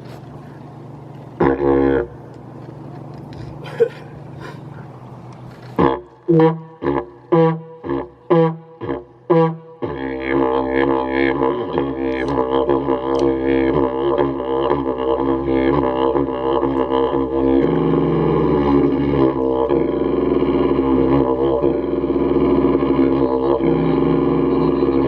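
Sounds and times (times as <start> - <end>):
didgeridoo drone: 0.0 - 25.0.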